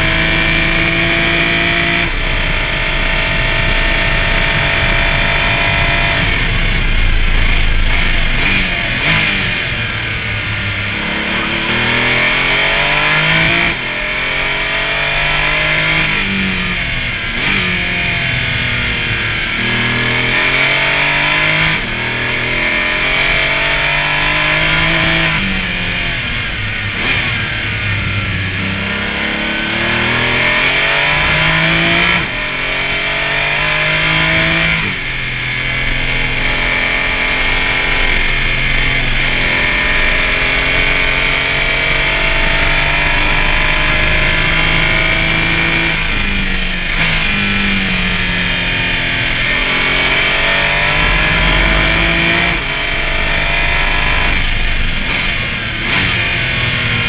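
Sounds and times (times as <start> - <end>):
race car engine accelerating: 0.0 - 57.0
wind and road noise: 0.0 - 57.0.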